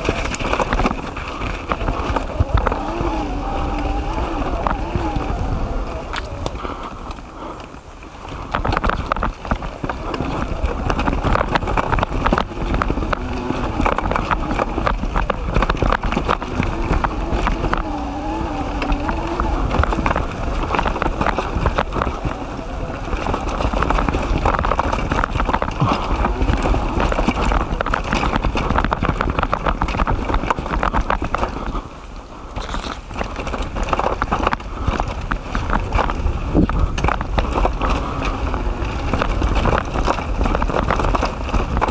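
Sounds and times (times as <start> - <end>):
mountain bike clattering: 0.0 - 41.9
tyre noise: 0.0 - 41.9
wind buffeting microphone: 0.0 - 41.9.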